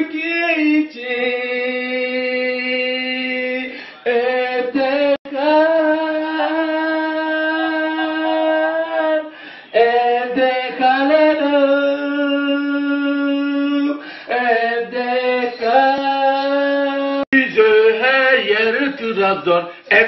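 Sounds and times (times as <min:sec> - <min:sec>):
man singing into karaoke microphone: 0:00.0 - 0:20.0.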